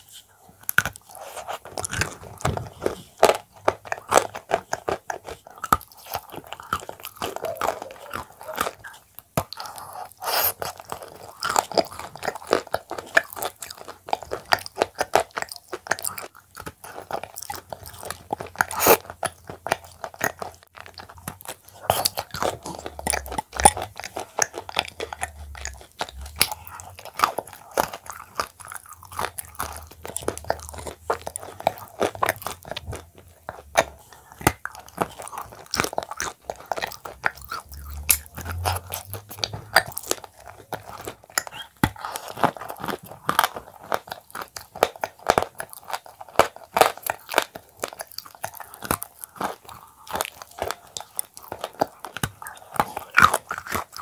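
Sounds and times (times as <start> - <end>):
cookies crunching: 0.0 - 54.0
wet mouth sounds: 0.0 - 54.0.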